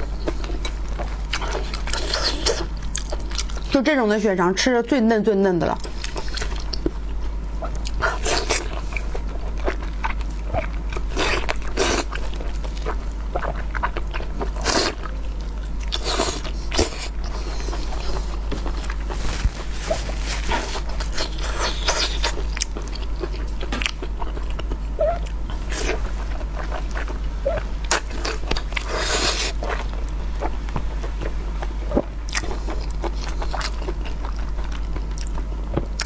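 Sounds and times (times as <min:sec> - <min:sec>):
steady low hum: 0:00.0 - 0:36.0
chewing and mouth smacks: 0:05.8 - 0:19.3, 0:20.0 - 0:36.0.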